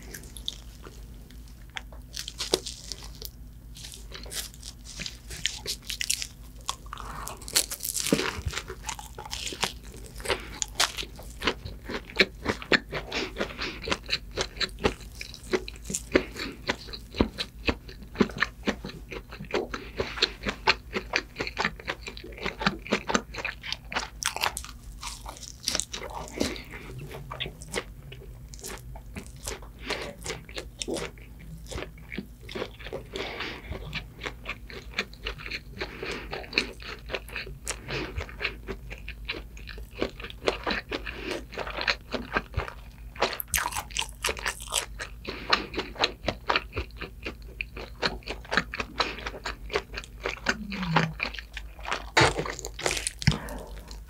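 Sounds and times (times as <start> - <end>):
crunchy pastry chewing: 0.0 - 54.0.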